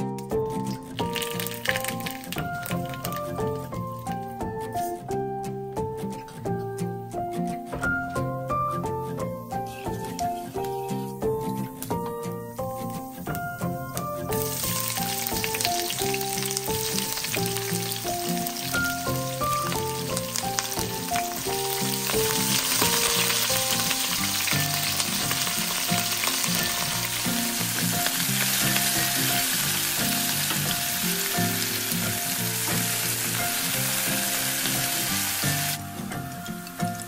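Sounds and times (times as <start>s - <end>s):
vegetables sizzling in hot oil: 0.5s - 3.7s, 9.2s - 37.0s.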